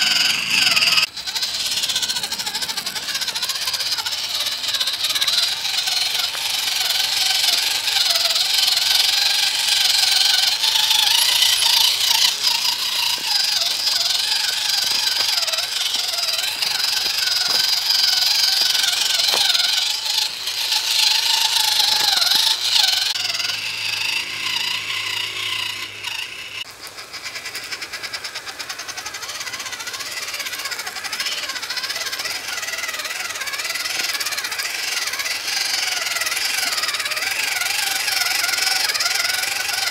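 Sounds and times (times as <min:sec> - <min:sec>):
chassis rattling: 0:00.0 - 0:39.9
toy truck electric motor whining: 0:00.0 - 0:39.9
wheels over loose stones: 0:00.0 - 0:39.9.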